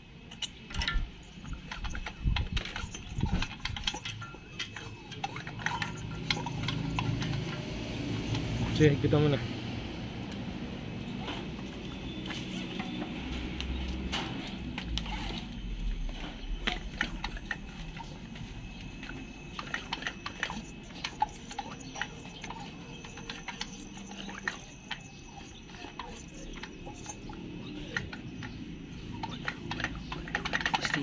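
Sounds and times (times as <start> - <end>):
metal parts and tools clicking: 0.2 - 9.3, 10.2 - 31.0.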